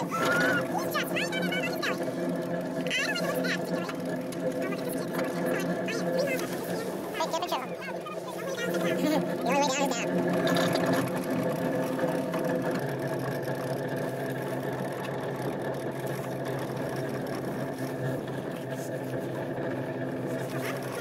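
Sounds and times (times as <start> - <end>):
gondola lift mechanical whir: 0.0 - 21.0.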